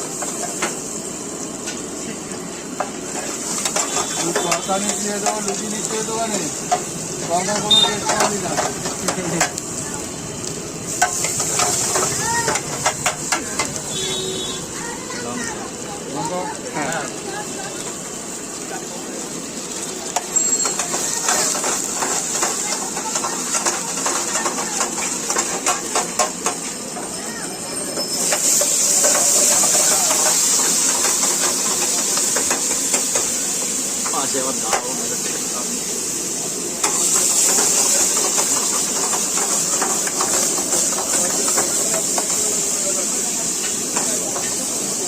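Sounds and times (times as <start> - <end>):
cooking hiss: 0.0 - 45.0.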